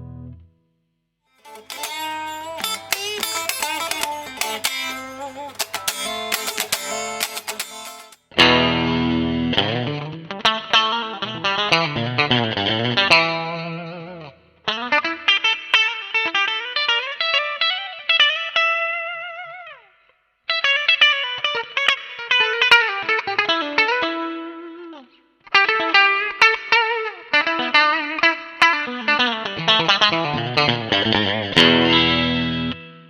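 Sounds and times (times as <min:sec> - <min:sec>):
electric guitar lead phrases: 0:00.0 - 0:00.5, 0:01.4 - 0:19.5, 0:20.6 - 0:33.0.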